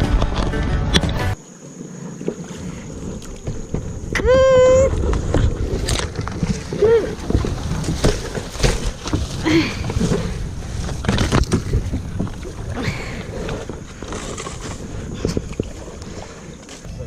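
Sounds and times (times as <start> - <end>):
paddle blades splashing: 1.6 - 17.0
wind on microphone: 2.4 - 17.0.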